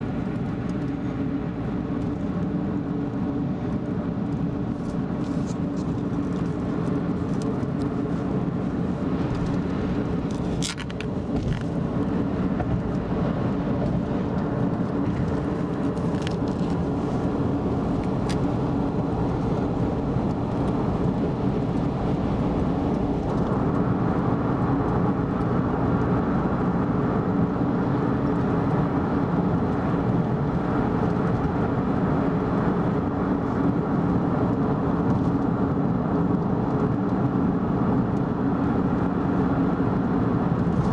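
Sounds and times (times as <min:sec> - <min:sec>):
car engine: 0:00.0 - 0:34.5
road and tyre noise: 0:00.0 - 0:40.9.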